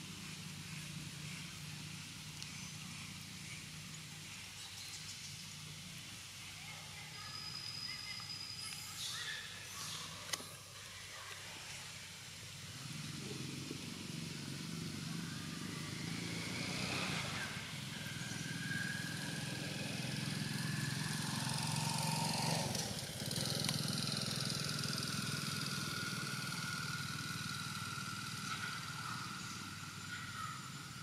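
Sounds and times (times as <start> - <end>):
motor engine running: 0.0 - 4.6, 9.7 - 31.0.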